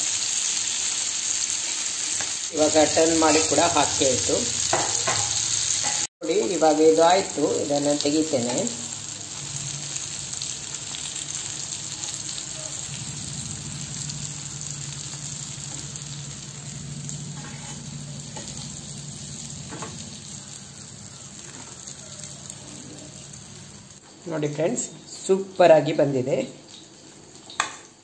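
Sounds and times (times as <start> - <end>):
slices sizzling in oil: 0.0 - 24.2, 26.3 - 28.0.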